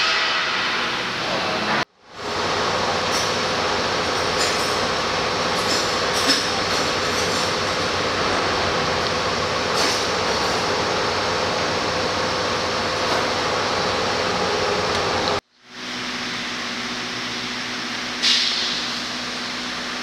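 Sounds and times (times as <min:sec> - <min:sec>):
loud machinery noise: 0:00.0 - 0:20.0.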